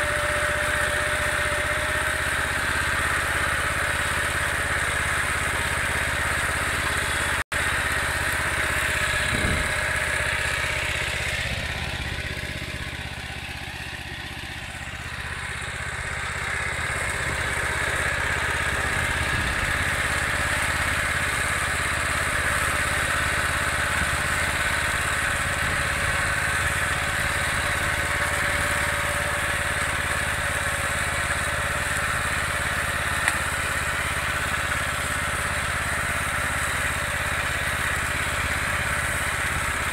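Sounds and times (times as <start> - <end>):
petrol engine running under load: 0.0 - 39.9.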